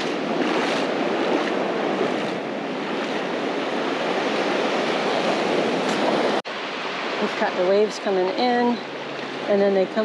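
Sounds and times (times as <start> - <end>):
surf washing over sand: 0.0 - 10.0.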